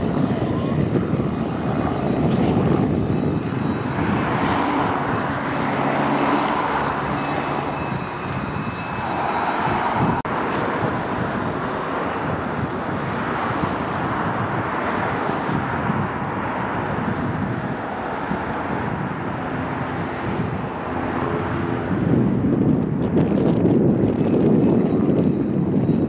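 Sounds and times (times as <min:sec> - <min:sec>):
aircraft rushing noise: 0:00.0 - 0:26.0
wind buffeting microphone: 0:00.0 - 0:26.0.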